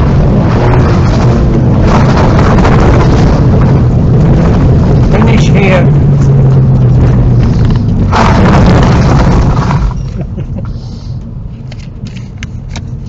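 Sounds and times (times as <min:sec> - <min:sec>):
car engine running: 0:00.0 - 0:13.0
road and tyre noise: 0:00.0 - 0:13.0.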